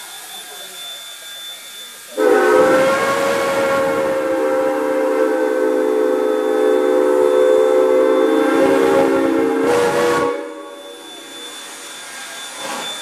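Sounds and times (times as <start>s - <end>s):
steam hissing: 0.0s - 13.0s
steam locomotive whistle: 0.0s - 13.0s.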